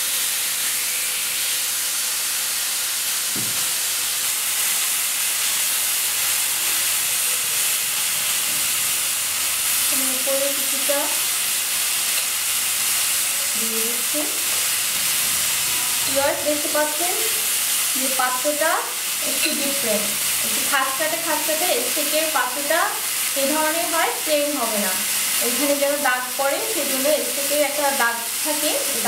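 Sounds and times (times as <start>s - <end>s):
steak sizzling in grill pan: 0.0s - 29.0s.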